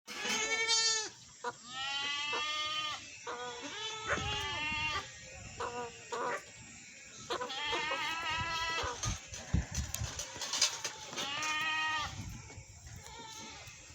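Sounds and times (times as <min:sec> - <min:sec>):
goat bleating: 0:00.1 - 0:06.4, 0:07.2 - 0:12.2, 0:13.0 - 0:13.9.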